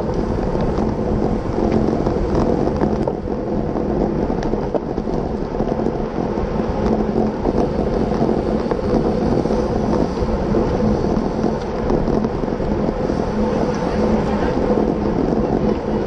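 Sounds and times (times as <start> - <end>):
bicycle tyre and road noise: 0.0 - 16.0
wind buffeting microphone: 0.0 - 16.0.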